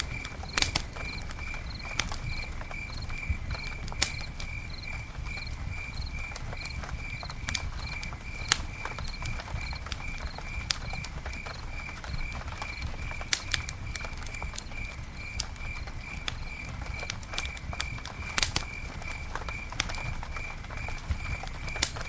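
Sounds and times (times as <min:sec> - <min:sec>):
campfire crackling and popping: 0:00.0 - 0:22.0
cricket chirping: 0:00.0 - 0:22.0.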